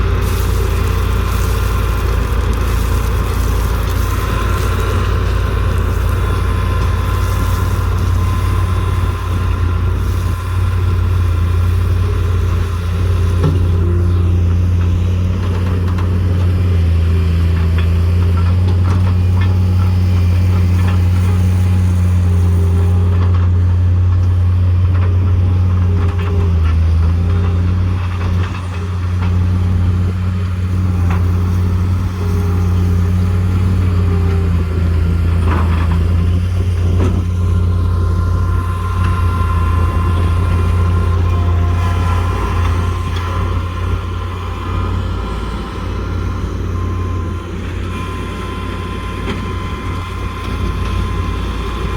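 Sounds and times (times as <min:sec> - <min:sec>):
heavy equipment engine running: 0:00.0 - 0:51.9.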